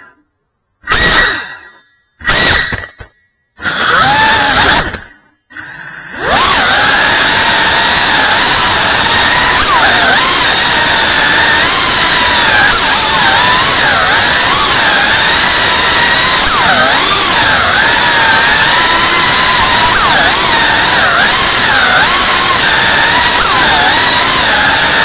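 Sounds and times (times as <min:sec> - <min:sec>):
drone motors whining: 0:00.8 - 0:25.0.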